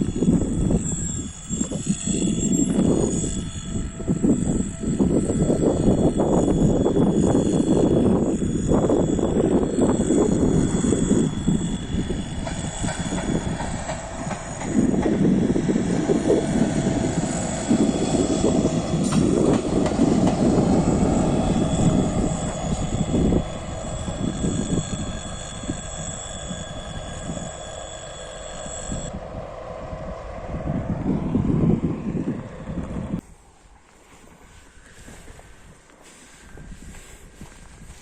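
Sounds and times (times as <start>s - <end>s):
steady high whine: 0.0s - 38.0s
train wheels rumbling on rails: 0.0s - 38.0s.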